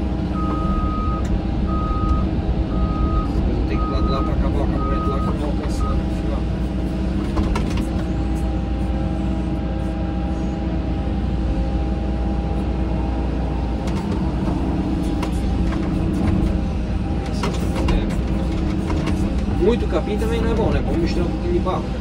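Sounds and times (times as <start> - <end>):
excavator engine and hydraulics hum: 0.0 - 22.0.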